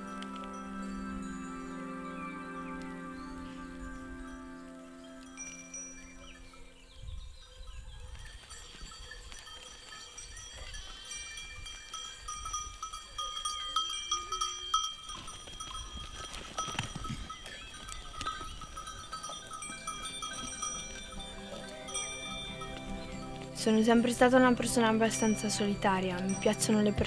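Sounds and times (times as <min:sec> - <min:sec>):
animal bells clinking: 0:00.0 - 0:27.0.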